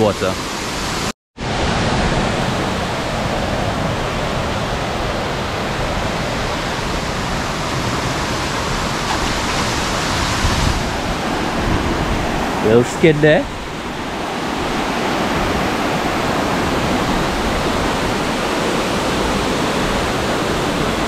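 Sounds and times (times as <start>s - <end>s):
waterfall rushing into pool: 0.0s - 21.0s.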